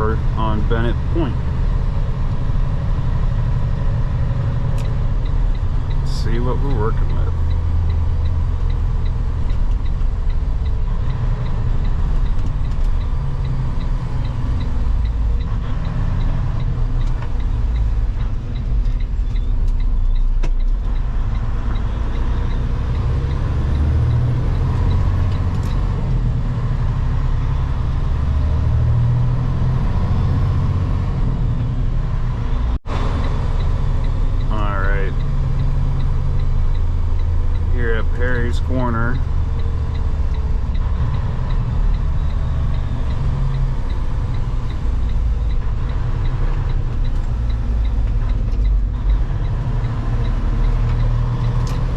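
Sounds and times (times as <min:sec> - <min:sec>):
diesel truck engine rumble: 0:00.0 - 0:51.9
road noise: 0:00.0 - 0:51.9
light regular ticking: 0:00.2 - 0:28.2, 0:31.4 - 0:51.9.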